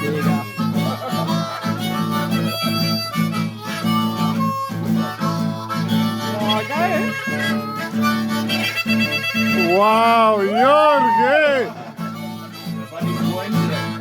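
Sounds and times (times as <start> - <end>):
blues harmonica solo: 0.0 - 14.0
boogie rhythm on guitar: 0.0 - 14.0.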